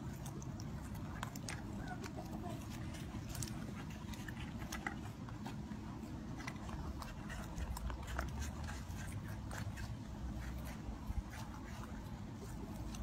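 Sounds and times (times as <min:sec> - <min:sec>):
animals crunching vegetables: 0:00.0 - 0:13.0.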